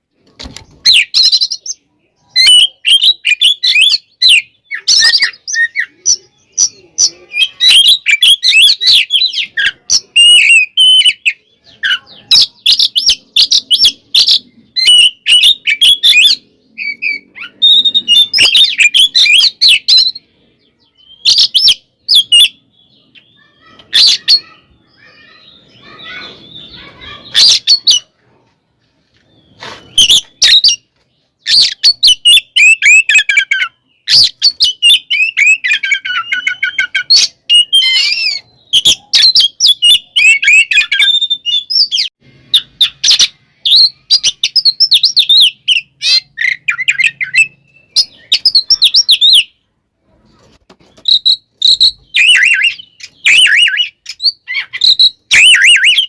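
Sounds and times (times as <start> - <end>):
magpie-robin singing: 0.6 - 28.2, 29.2 - 49.7, 50.3 - 56.0.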